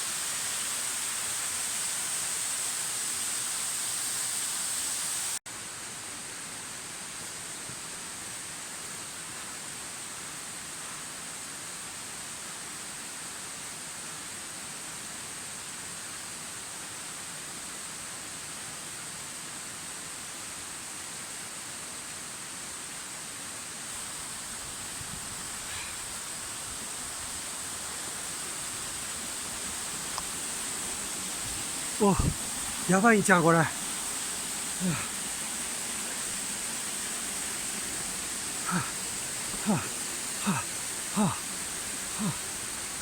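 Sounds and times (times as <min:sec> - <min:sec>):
waterfall and stream rushing: 0:00.0 - 0:43.0.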